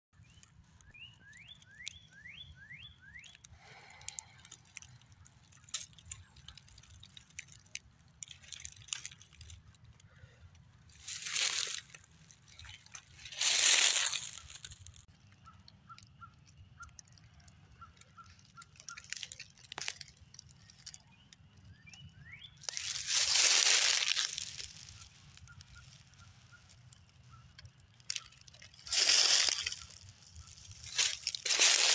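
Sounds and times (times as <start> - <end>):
dry leaves crackling: 0.2 - 16.0, 17.0 - 31.9
small birds chirping: 0.2 - 31.9.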